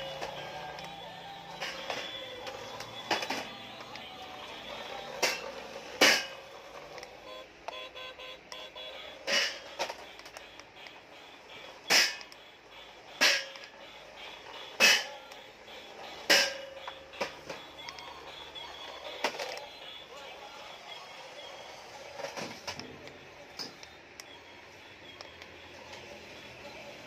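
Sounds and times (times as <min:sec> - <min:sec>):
faint steady tones: 0:00.0 - 0:27.0.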